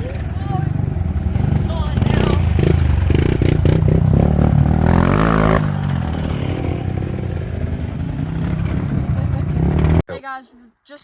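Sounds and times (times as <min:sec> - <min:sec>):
motorbike engine revving: 0:00.0 - 0:10.0.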